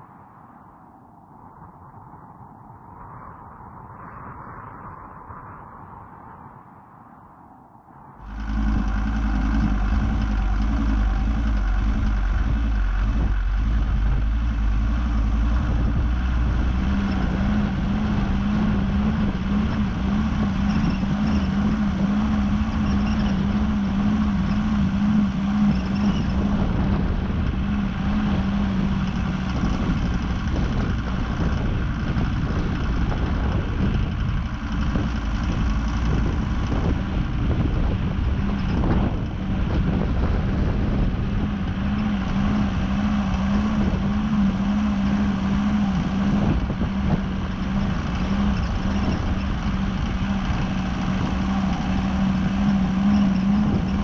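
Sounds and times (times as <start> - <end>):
vehicle engine rumbling: 8.2 - 54.0
wavering engine note: 8.2 - 54.0.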